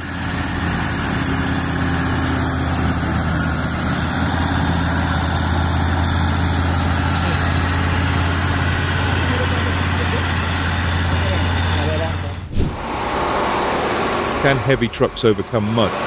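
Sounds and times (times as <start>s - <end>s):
truck diesel engine labouring: 0.0s - 16.0s.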